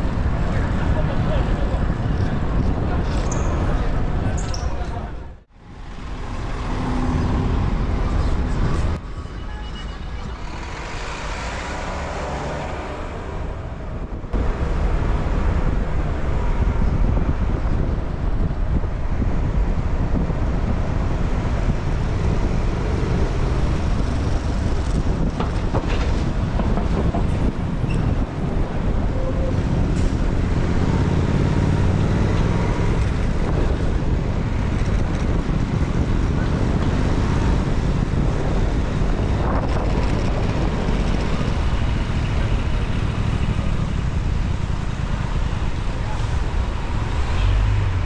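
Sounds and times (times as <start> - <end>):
city street traffic: 0.0 - 48.0
wind rumbling on microphone: 0.0 - 48.0.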